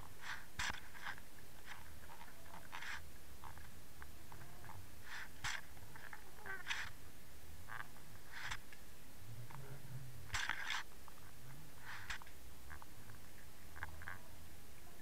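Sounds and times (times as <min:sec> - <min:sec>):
underwater raspy crackles: 0:00.0 - 0:07.1, 0:07.7 - 0:08.8, 0:10.3 - 0:14.2.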